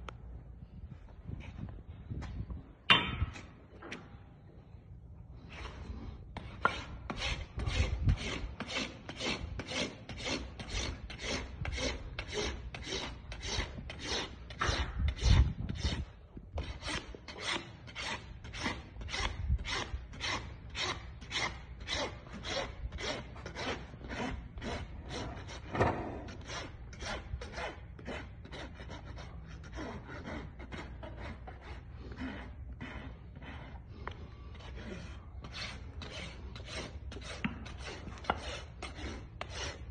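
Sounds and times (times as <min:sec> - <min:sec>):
rasp filing hoof: 0:05.5 - 0:39.9.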